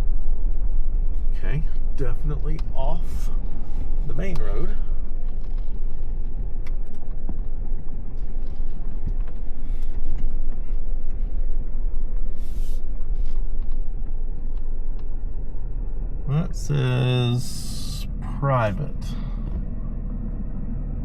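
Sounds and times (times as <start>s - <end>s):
truck engine and tyres rumbling: 0.0s - 21.0s.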